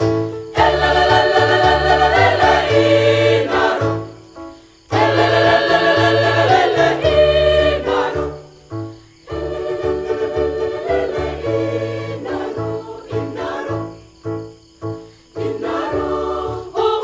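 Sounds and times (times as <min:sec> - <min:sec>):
choir singing in parts: 0:00.0 - 0:04.3, 0:04.9 - 0:14.4, 0:15.3 - 0:17.0.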